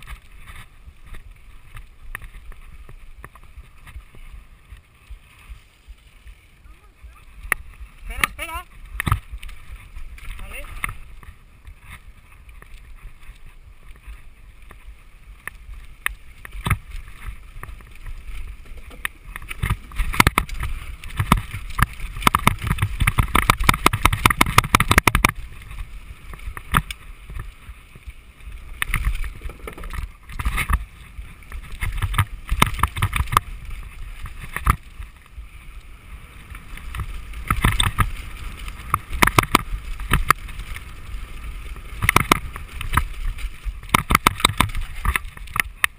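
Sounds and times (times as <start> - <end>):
mountain bike rattling downhill: 0.0 - 45.9.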